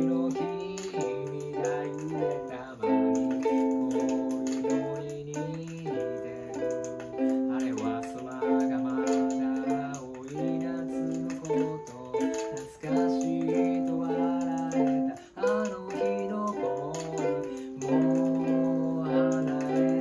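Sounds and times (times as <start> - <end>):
man singing low: 0.0 - 20.0
ukulele strumming chords: 0.0 - 20.0.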